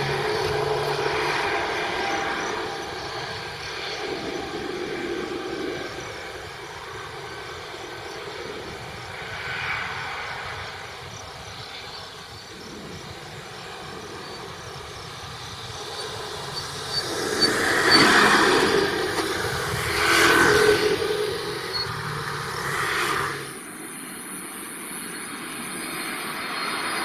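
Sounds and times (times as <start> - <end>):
jet engine rumbling: 0.0 - 27.0.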